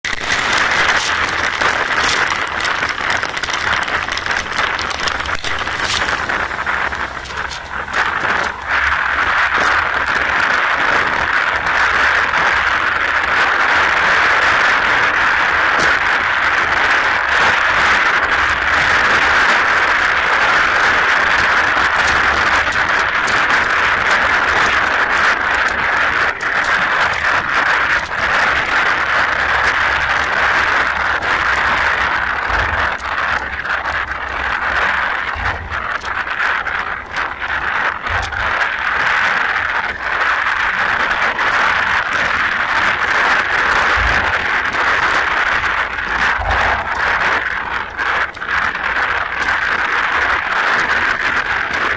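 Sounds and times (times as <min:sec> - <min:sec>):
low bumps: 0:00.0 - 0:51.9
steady rain: 0:00.0 - 0:51.9.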